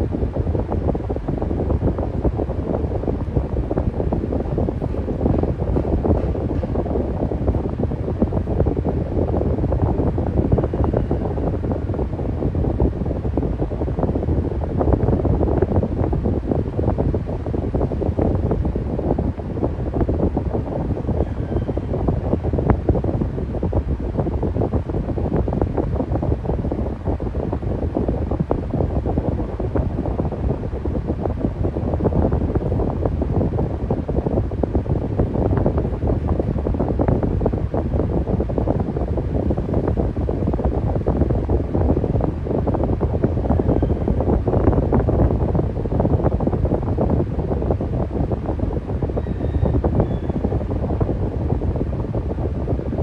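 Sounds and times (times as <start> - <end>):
air buffeting microphone: 0.0 - 53.0
electric fan running: 0.0 - 53.0.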